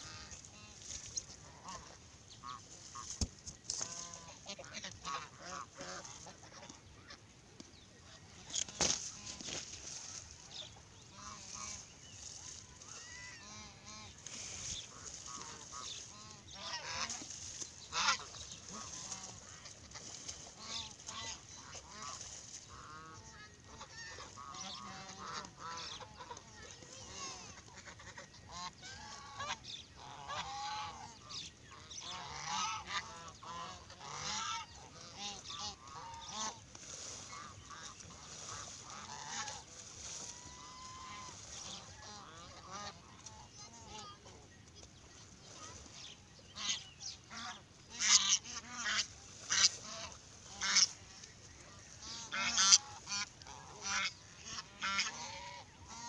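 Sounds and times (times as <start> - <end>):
ducks quacking: 0.0 - 7.3, 7.9 - 56.0.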